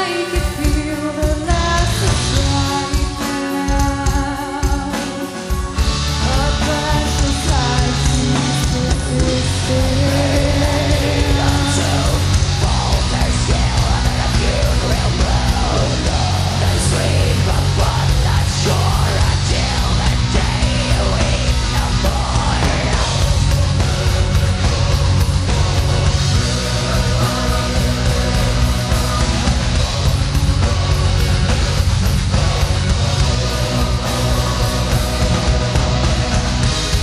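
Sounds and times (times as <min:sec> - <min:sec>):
heavy metal band playing live: 0:00.0 - 0:37.0
vocals singing: 0:00.0 - 0:37.0.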